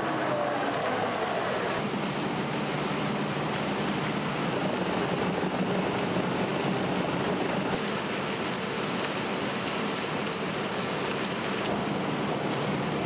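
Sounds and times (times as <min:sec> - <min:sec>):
flowing slurry and water: 0:00.0 - 0:13.0.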